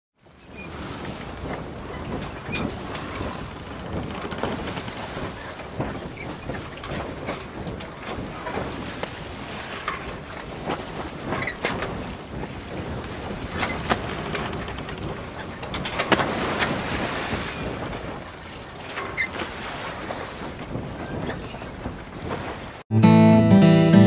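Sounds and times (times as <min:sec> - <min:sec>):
wind buffeting the microphone: 0:00.2 - 0:22.8
sea waves breaking: 0:00.2 - 0:22.9.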